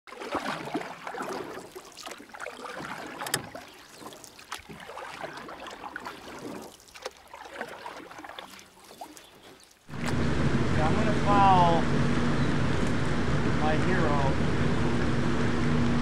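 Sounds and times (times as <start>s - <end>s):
water splashing around a kayak: 0.1s - 16.0s.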